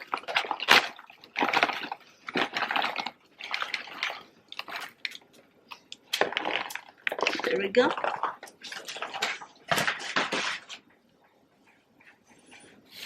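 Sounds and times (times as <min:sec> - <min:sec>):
popcorn rustling: 0:00.0 - 0:10.9.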